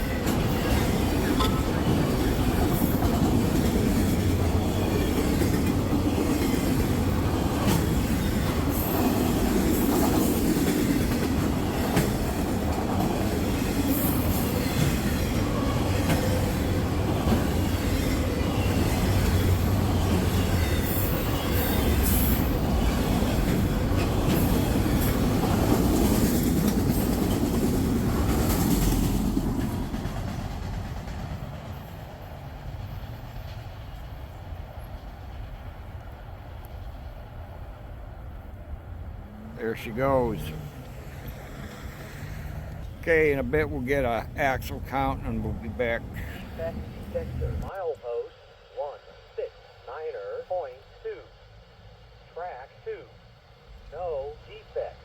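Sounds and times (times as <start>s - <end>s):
train wheels rumbling on rail: 0.0s - 47.7s.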